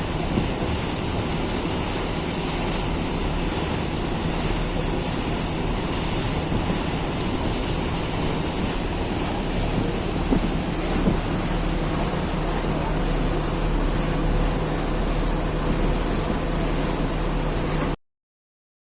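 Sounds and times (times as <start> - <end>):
wind buffeting microphone: 0.0 - 17.5
ferry engine hum: 0.0 - 18.0
rushing water: 0.0 - 18.0.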